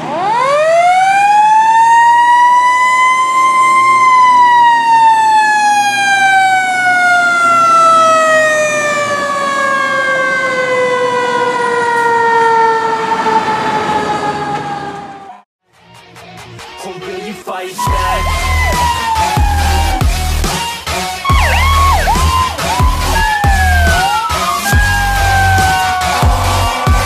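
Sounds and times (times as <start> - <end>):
fire truck siren: 0.0 - 15.5, 17.8 - 27.0.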